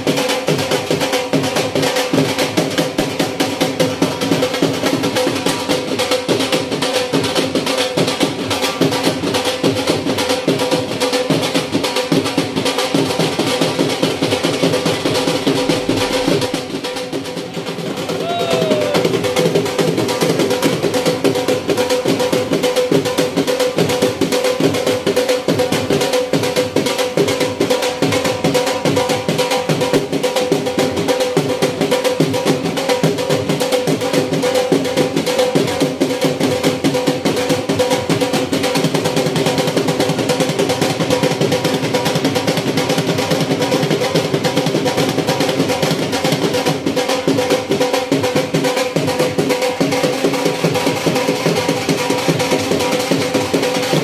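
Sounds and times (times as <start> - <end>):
barrel drums beaten fast: 0.0 - 54.0.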